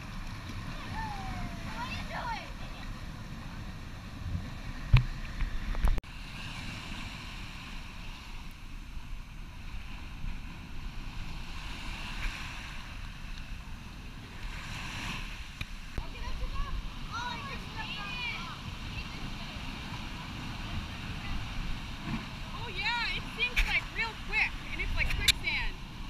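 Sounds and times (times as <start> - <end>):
waves washing on beach: 0.0 - 26.0
wind on microphone: 0.0 - 26.0.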